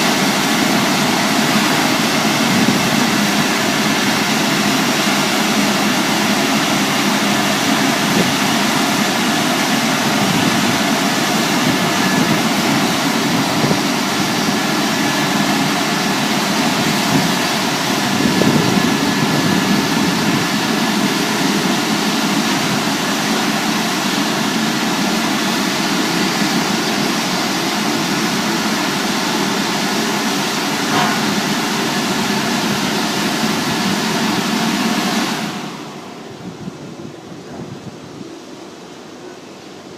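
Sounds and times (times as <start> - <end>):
car wash machine running: 0.0 - 39.9.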